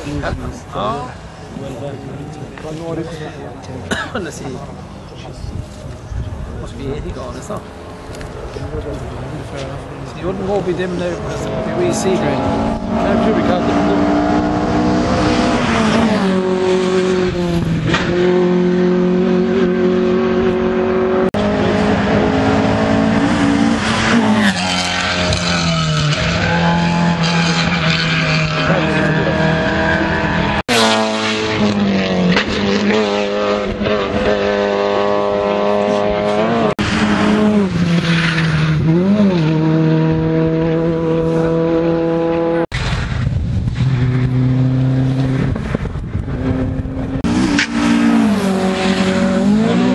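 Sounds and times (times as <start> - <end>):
rally cars at full throttle: 0.0 - 49.9.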